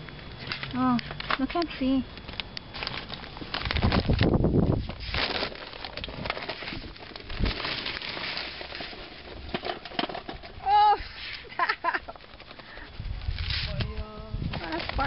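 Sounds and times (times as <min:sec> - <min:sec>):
charcoal crackling and popping: 0:00.0 - 0:15.0
coals stirred with stick: 0:00.0 - 0:15.0.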